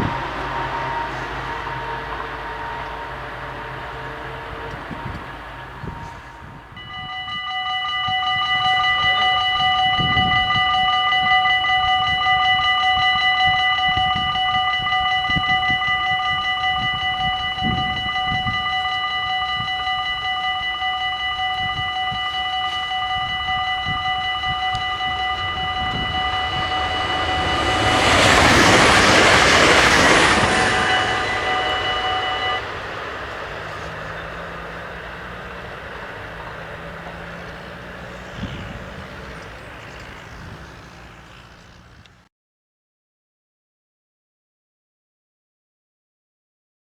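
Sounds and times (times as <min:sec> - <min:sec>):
level-crossing bells ringing: 0:00.0 - 0:42.0
train rushing past: 0:00.0 - 0:42.3.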